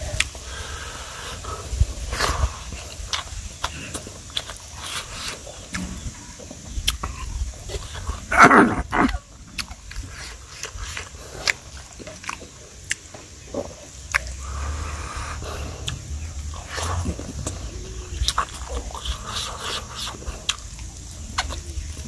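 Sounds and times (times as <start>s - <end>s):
man chewing with mouth smacks: 0.0s - 22.0s.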